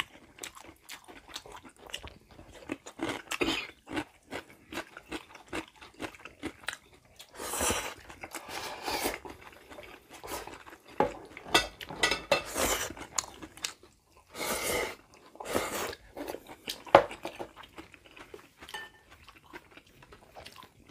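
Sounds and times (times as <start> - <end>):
wet chewing: 0.0 - 11.9, 12.6 - 14.3, 14.9 - 20.9.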